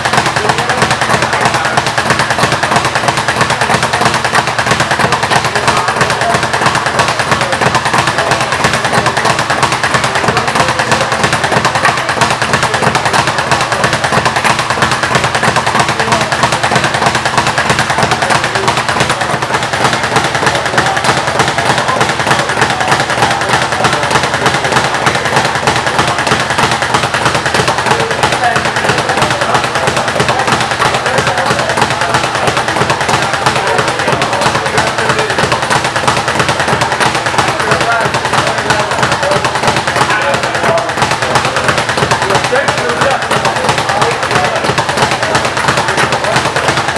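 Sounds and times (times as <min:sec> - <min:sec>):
speed bag punched rapidly: 0:00.0 - 0:46.9.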